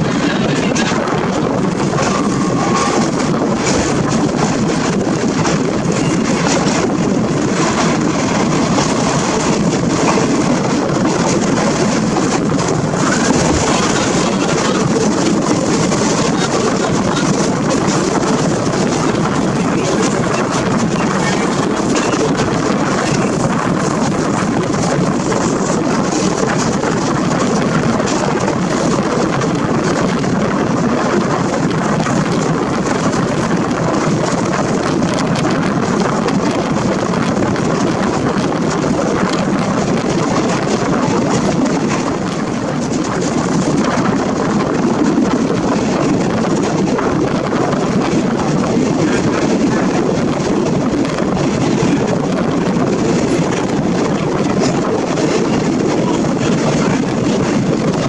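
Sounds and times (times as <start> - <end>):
train wheels rolling on rails: 0.0 - 58.0
wind rushing past microphone: 0.0 - 58.0.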